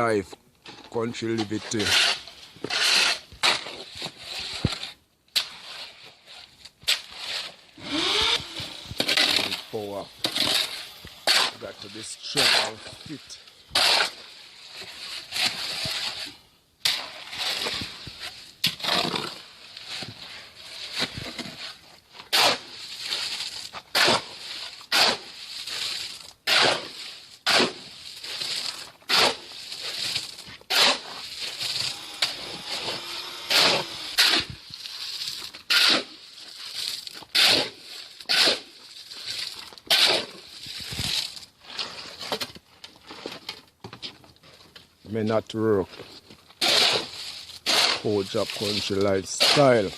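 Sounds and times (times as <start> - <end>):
tool scraping stone: 0.7 - 44.2, 45.9 - 49.9.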